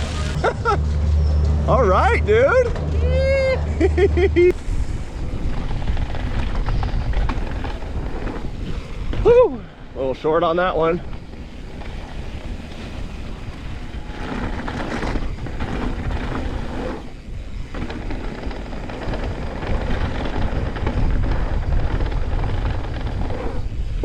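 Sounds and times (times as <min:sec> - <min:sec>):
bike tyres rolling on dirt: 0:00.0 - 0:24.0
wind buffeting microphone: 0:00.0 - 0:24.0.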